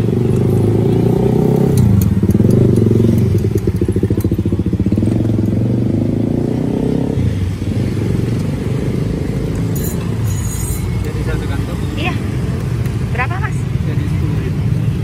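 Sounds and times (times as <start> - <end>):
engine running with even throb: 0.0 - 15.0.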